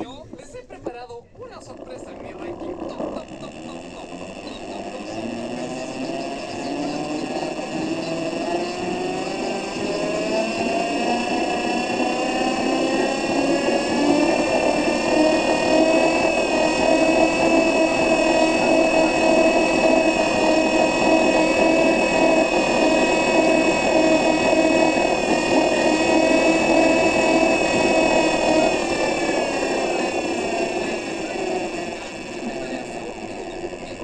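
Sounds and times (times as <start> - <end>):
electric bus motor whining: 0.0 - 34.0.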